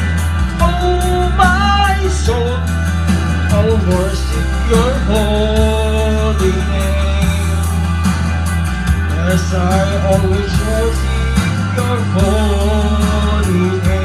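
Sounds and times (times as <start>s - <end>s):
slow worship song backing track: 0.0s - 14.0s.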